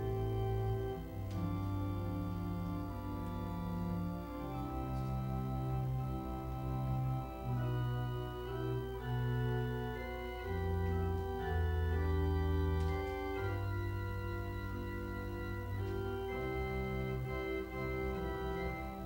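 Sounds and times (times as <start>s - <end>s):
church organ playing chords: 0.0s - 19.0s.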